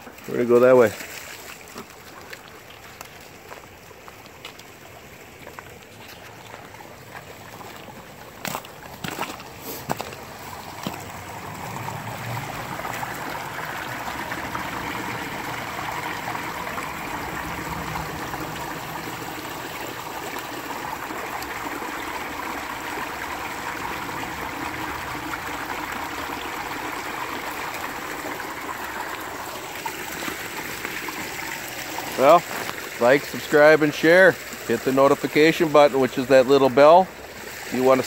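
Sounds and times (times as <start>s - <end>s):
creek trickling over rocks: 0.0s - 38.0s.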